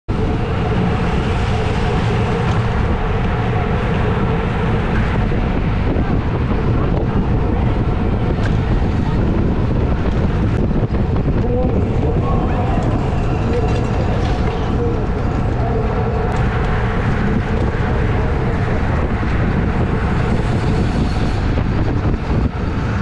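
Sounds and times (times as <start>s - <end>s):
road bike rolling rumble: 0.0s - 23.0s
wind buffeting microphone: 0.1s - 23.0s.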